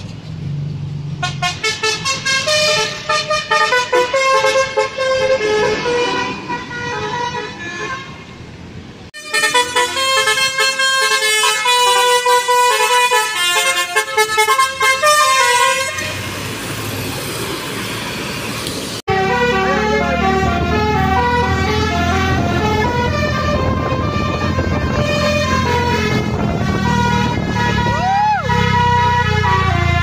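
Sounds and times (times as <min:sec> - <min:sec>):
bus engine running: 0:00.0 - 0:30.0
road noise: 0:00.0 - 0:30.0
multi-tone bus horn melody: 0:01.2 - 0:08.3, 0:09.2 - 0:16.6, 0:19.1 - 0:30.0.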